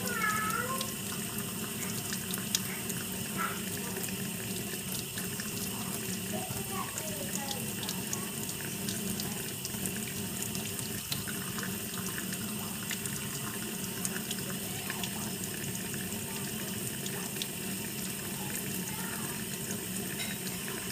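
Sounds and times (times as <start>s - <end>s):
drips ticking: 0.0s - 20.9s
tap water splashing into sink: 0.0s - 20.9s.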